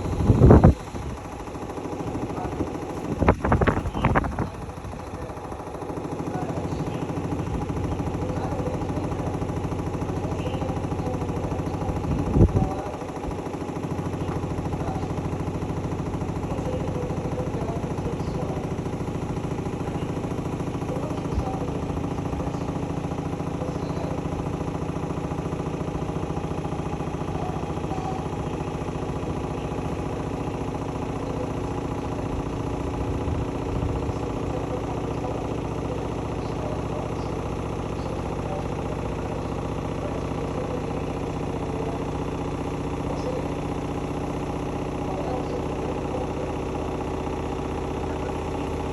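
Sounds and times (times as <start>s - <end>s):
washing machine motor hum: 0.0s - 48.9s.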